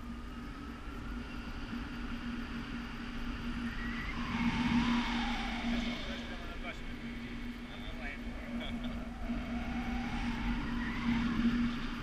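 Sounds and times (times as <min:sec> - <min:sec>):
steady low tone: 0:00.0 - 0:12.0
wind rushing over microphone: 0:00.0 - 0:12.0.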